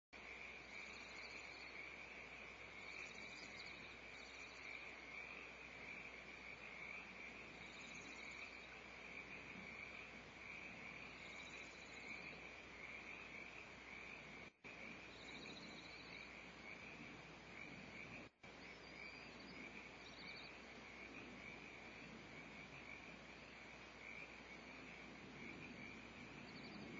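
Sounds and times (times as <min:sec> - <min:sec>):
faint hiss with high whine: 0:00.2 - 0:26.9.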